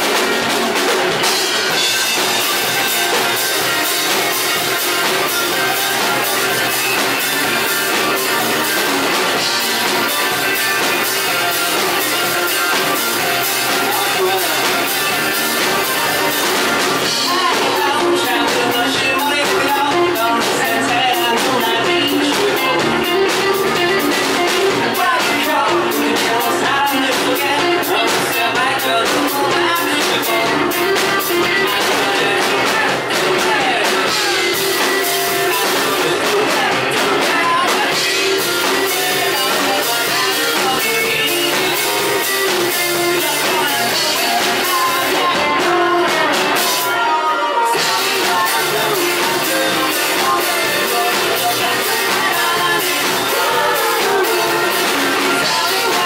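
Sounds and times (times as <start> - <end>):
drums: 0.0 - 56.0
electric guitar: 0.0 - 56.0
man singing: 1.2 - 56.0.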